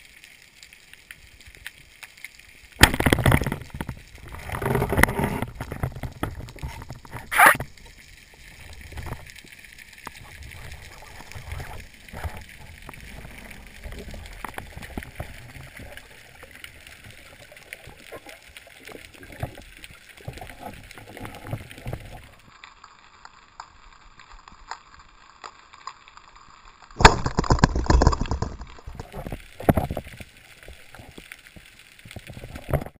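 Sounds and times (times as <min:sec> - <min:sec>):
underwater gurgling: 0:00.0 - 0:33.0.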